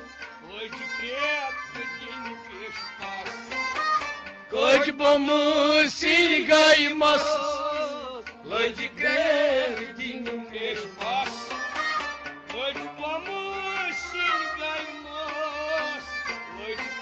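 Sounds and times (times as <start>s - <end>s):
man singing: 0.0s - 3.8s, 4.5s - 17.0s.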